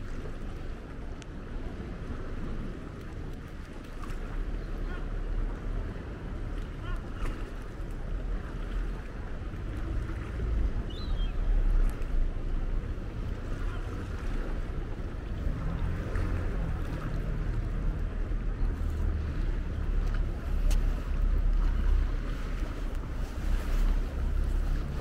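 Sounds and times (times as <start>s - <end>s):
low uneven rumble: 0.0s - 25.0s
steady wash of noise: 0.0s - 25.0s.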